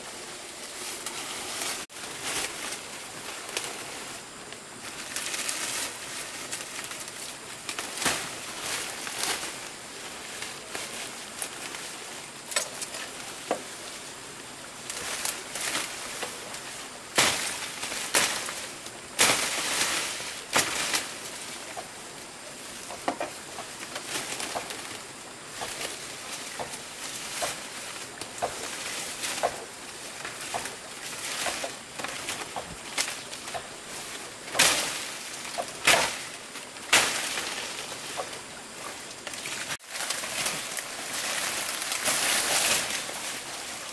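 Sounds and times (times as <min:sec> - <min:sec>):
rustling: 0:00.0 - 0:43.9
steady high hiss: 0:00.0 - 0:43.9.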